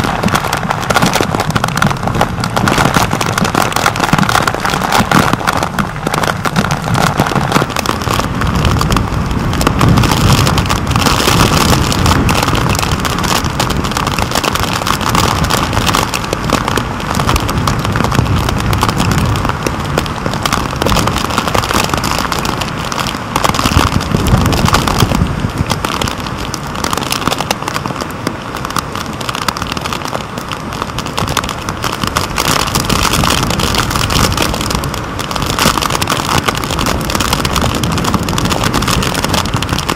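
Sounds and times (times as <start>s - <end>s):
heavy rain roaring: 0.0s - 39.9s
raindrops crackling on housing: 0.0s - 39.9s
wind buffeting microphone: 0.0s - 39.9s.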